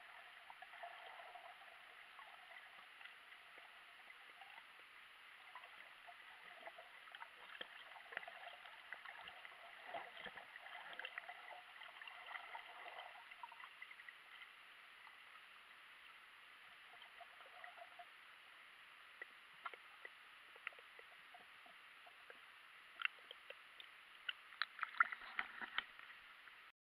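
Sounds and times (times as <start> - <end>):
muffled underwater hiss: 0.0 - 26.7
small underwater clicks and crackles: 0.0 - 26.7.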